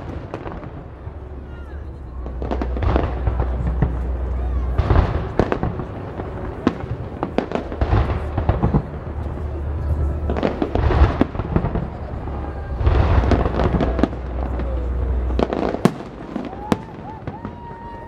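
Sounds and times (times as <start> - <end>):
fireworks crackling: 0.0 - 18.0
low rumble: 0.0 - 18.0
fireworks bangs and pops: 2.2 - 12.2, 12.8 - 18.0.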